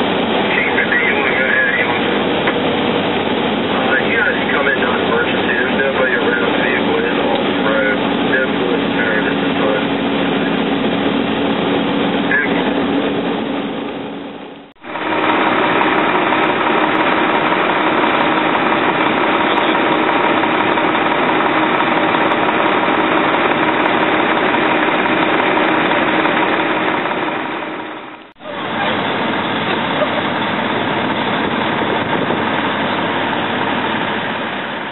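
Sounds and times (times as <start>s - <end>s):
fire truck engine running: 0.0s - 34.9s.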